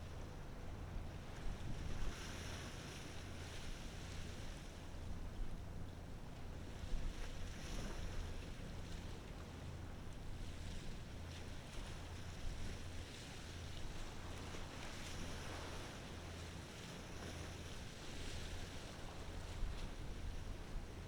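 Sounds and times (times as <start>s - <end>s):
small waves: 0.0s - 21.0s.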